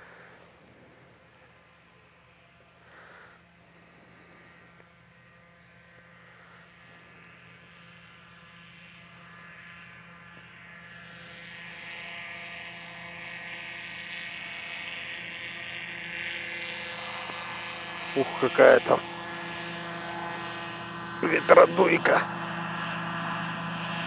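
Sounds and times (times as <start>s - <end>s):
airboat engine and propeller hum: 0.0s - 24.0s.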